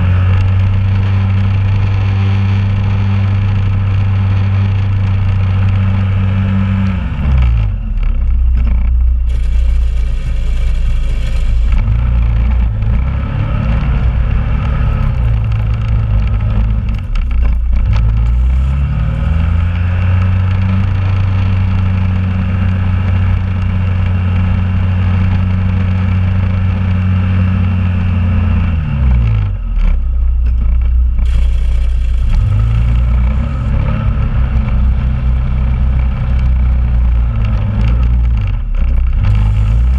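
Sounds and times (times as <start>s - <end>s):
engine running under load: 0.0s - 39.9s.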